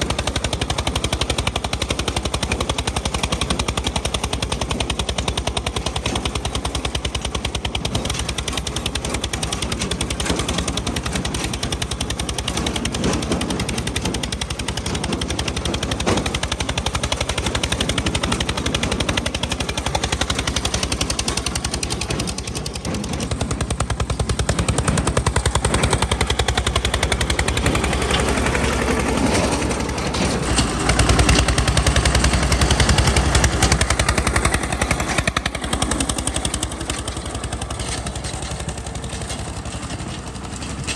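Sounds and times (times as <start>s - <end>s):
tractor diesel engine chugging: 0.0s - 40.9s.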